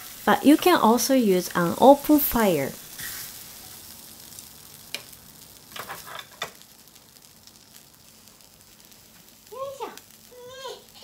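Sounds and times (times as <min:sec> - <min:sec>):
dumplings sizzling in frying pan: 0:00.0 - 0:11.0.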